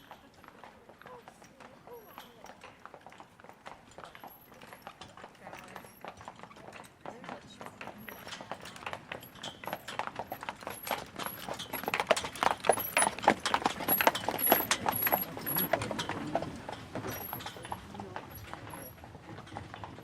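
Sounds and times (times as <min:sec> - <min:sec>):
horse hooves clip-clopping: 0:00.0 - 0:20.0.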